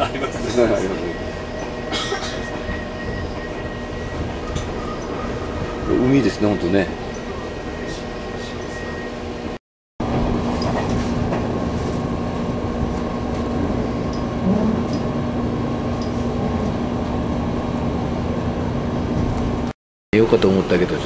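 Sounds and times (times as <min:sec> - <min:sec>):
train wheels rumbling on rail: 0:00.0 - 0:19.7
low hum: 0:00.3 - 0:19.7.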